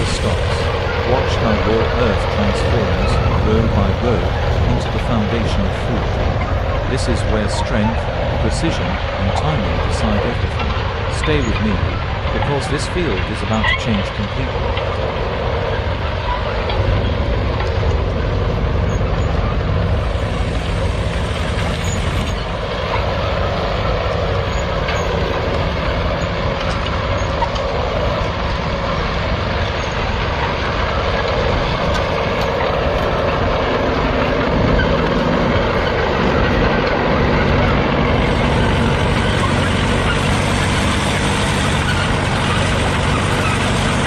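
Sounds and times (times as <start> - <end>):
tractor engine under load: 0.0 - 44.0.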